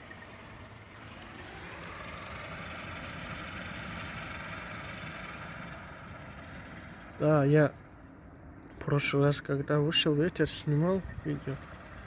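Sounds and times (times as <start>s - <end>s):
wind turbine whirring: 0.0s - 8.6s, 10.4s - 12.0s.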